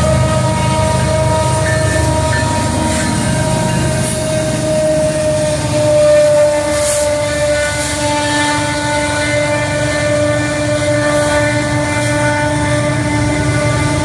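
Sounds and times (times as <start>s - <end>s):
diesel locomotive engine whining: 0.0s - 14.0s.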